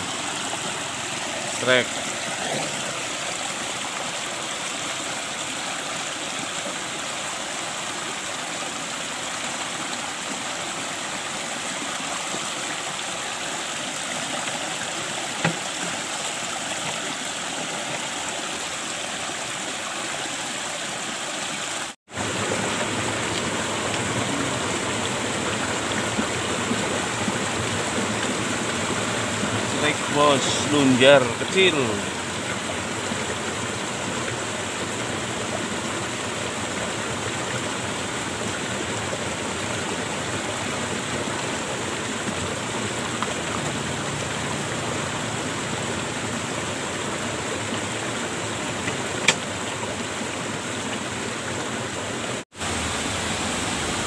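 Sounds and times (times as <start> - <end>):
stream rushing and gurgling: 0.0 - 54.0.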